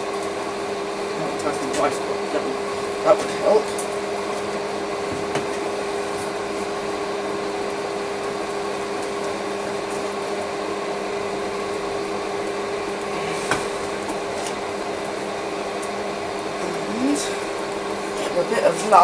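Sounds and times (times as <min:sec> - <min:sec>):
electric blower hum: 0:00.0 - 0:19.0.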